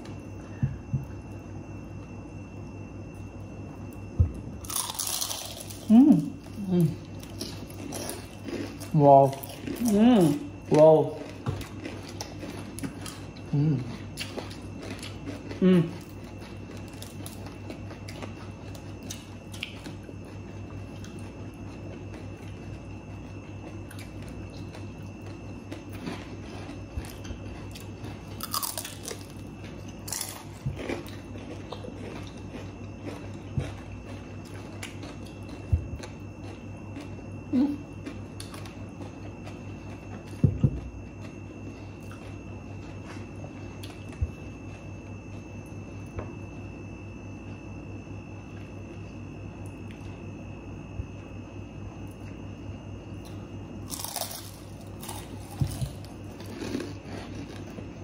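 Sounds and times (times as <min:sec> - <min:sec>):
crunchy food chewing: 0:00.0 - 0:58.0
steady low hum: 0:00.0 - 0:58.0.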